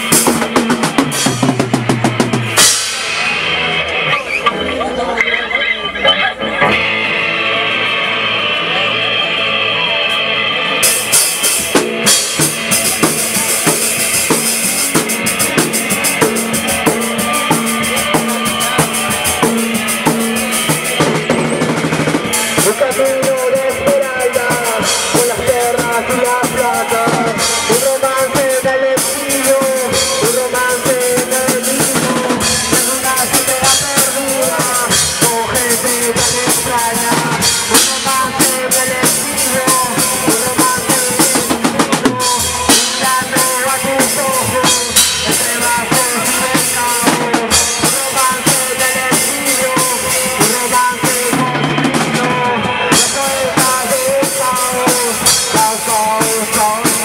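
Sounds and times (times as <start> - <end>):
drum kit hitting fast: 0.0 - 4.7, 10.8 - 57.0
wavering lead melody: 0.0 - 55.5
live rock band playing: 0.0 - 57.0.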